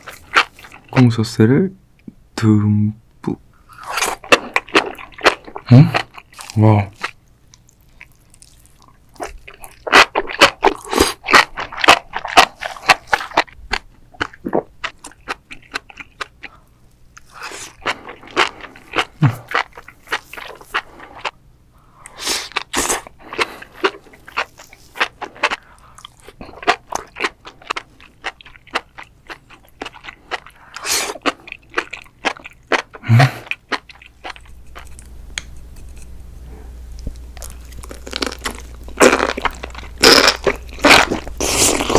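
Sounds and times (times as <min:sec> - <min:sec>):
crunchy chewing of mushrooms: 0:03.7 - 0:21.4, 0:22.1 - 0:41.9.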